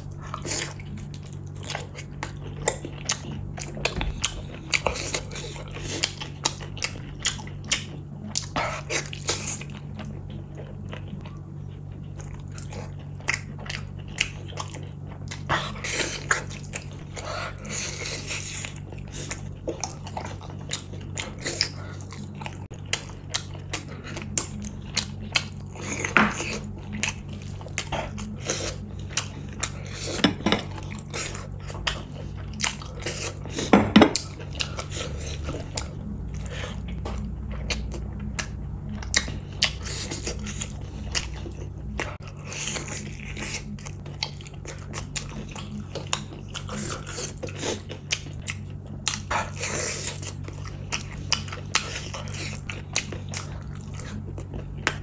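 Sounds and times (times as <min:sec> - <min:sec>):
wet chewing and lip smacking: 0:00.0 - 0:55.0.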